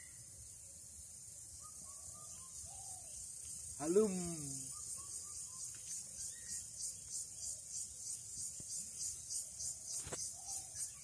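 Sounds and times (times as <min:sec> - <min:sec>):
insects shrilling in pulses: 0:00.0 - 0:11.0.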